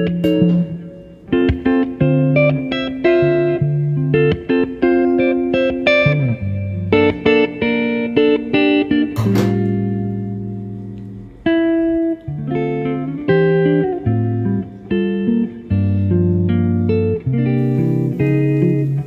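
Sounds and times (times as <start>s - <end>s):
guitar chord ringing: 0.0s - 19.0s
plucked guitar melody: 0.0s - 19.0s.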